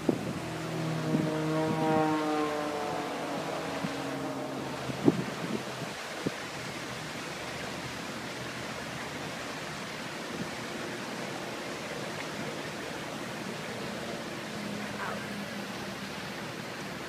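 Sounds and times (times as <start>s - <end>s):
distant surf: 0.0s - 17.0s
wind: 0.0s - 17.0s.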